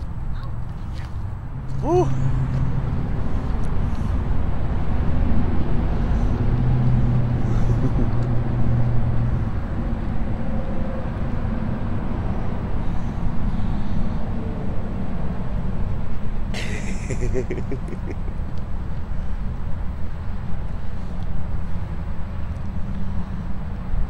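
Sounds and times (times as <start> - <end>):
motor vehicle rumble: 0.0 - 24.0.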